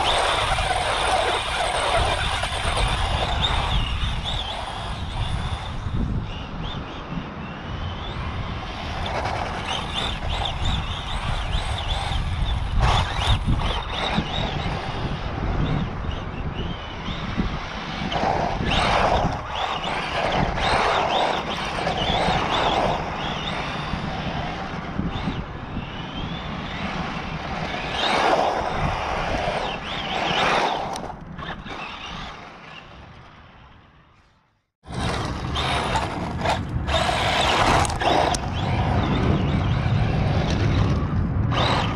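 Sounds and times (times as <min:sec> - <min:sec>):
toy car motor whining: 0:00.0 - 0:06.2, 0:07.6 - 0:41.9
tyres rumbling on asphalt: 0:00.0 - 0:34.0, 0:34.8 - 0:41.9.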